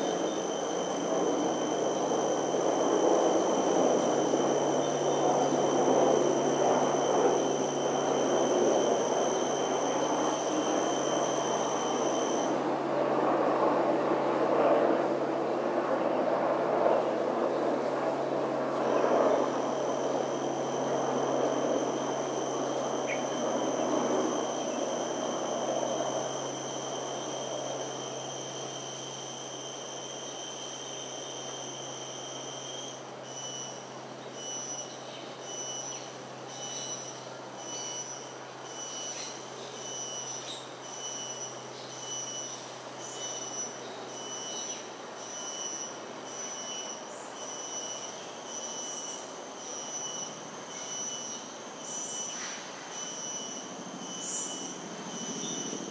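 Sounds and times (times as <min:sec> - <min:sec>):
cicada whistling drone: 0:00.0 - 0:55.9.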